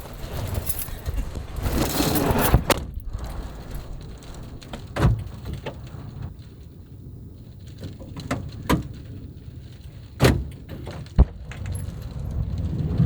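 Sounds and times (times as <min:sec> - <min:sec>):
rustling handling noise: 0:00.0 - 0:12.7.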